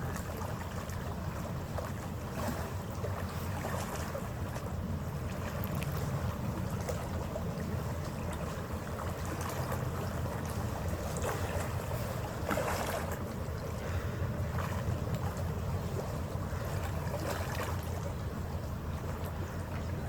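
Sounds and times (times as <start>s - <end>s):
ferry engine rumble: 0.0s - 20.0s
water rushing along hull: 0.0s - 20.0s.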